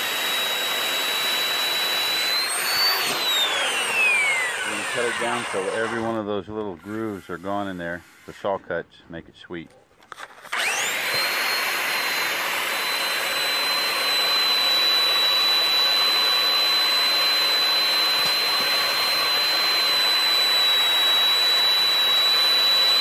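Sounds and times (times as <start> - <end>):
electric sander whining: 0.0 - 8.6, 10.2 - 23.0.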